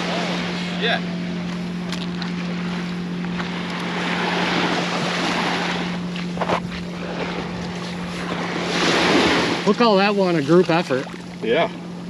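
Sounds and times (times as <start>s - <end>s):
surf washing: 0.0s - 1.4s, 2.0s - 12.0s
steady low hum: 0.0s - 12.0s.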